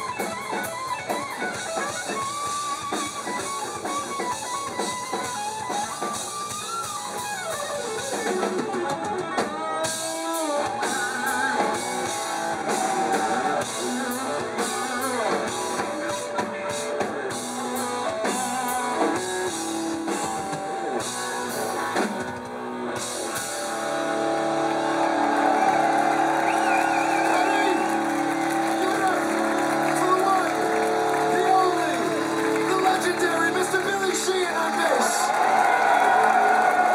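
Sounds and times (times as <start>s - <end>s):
live rock band playing: 0.0s - 36.9s.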